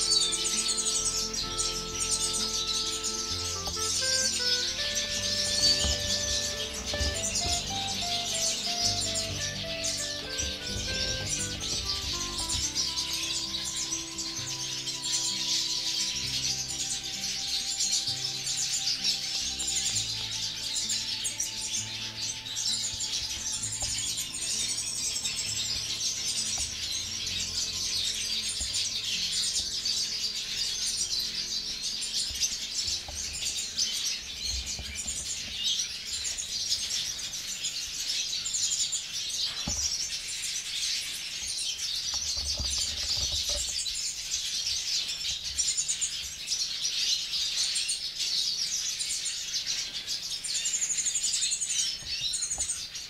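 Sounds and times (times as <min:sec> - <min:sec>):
birds twittering and chirping: 0:00.0 - 0:53.0.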